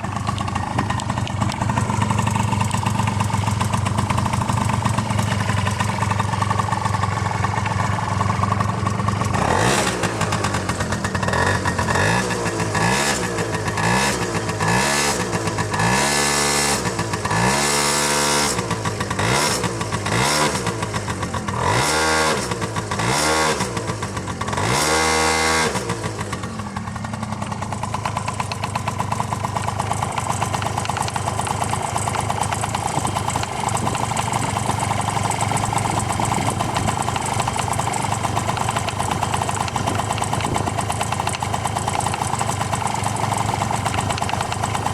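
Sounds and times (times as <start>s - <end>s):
engine knocking: 0.0s - 44.9s
scooter engine idling and revving: 0.0s - 44.9s.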